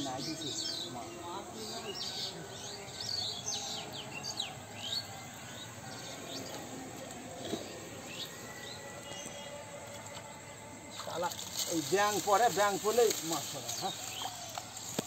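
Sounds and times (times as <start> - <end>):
insects trilling: 0.0 - 15.0
small birds chirping: 0.0 - 15.0.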